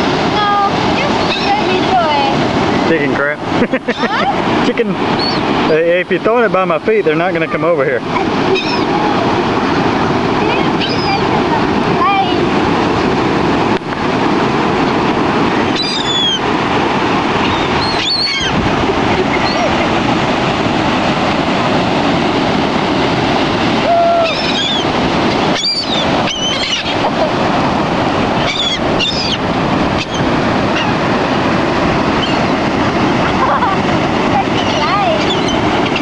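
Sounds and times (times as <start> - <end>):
gulls calling: 0.0 - 36.0
ocean surf: 0.0 - 36.0.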